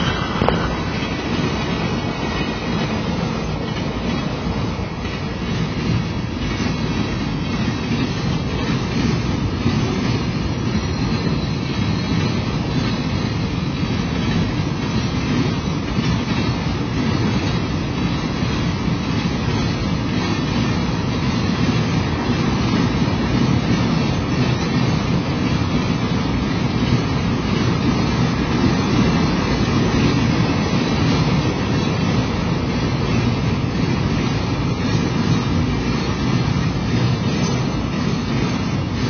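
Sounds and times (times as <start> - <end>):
steel wheels rolling on rails: 0.0 - 39.0.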